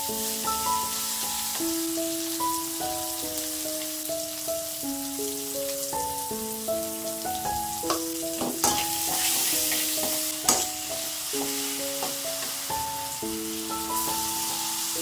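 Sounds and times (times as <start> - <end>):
light background music: 0.0 - 15.0
vegetables sizzling in a wok: 0.0 - 15.0.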